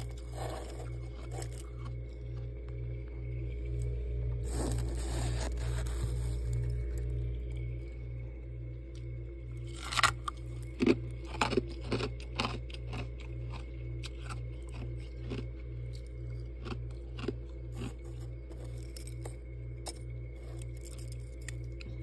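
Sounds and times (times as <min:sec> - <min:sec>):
ice crackling and cracking: 0:00.0 - 0:02.8, 0:03.8 - 0:07.7, 0:09.5 - 0:16.0, 0:16.7 - 0:22.0
freezer humming: 0:00.0 - 0:22.0.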